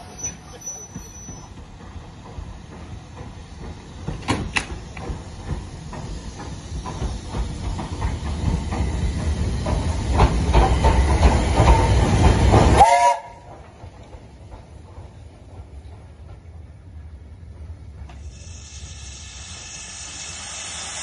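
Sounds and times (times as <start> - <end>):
train wheels clattering on rails: 0.0 - 21.0.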